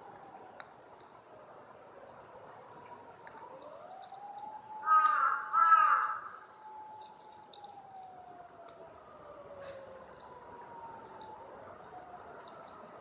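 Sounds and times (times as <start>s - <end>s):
faint distant siren: 0.0s - 13.0s.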